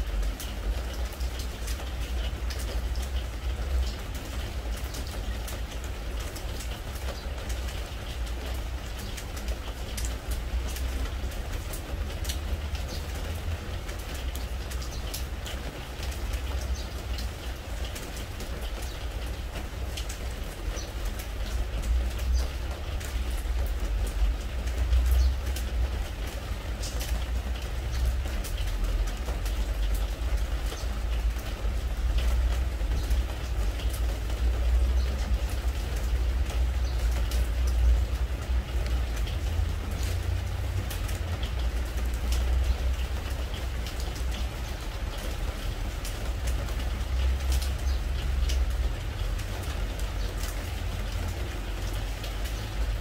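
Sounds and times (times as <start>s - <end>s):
rain on wood deck: 0.0s - 53.0s.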